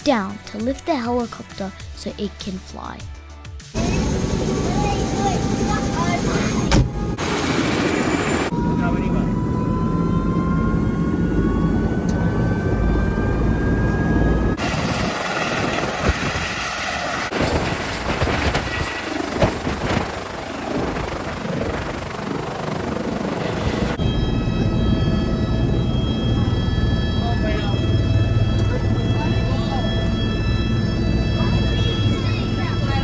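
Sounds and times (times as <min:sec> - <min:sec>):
helicopter engine and rotor: 0:03.6 - 0:33.0
high turbine whine: 0:03.8 - 0:33.0.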